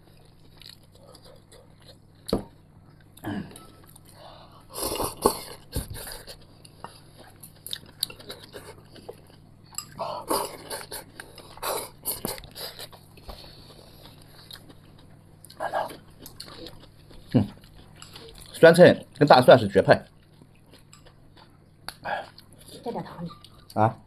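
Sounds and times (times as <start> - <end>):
person chewing food: 0.0 - 19.4, 20.0 - 23.8.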